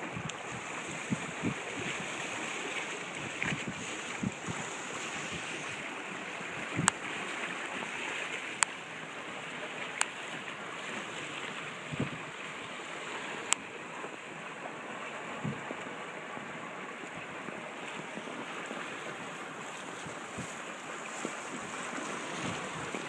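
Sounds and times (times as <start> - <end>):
water rushing along hull: 0.0 - 23.0.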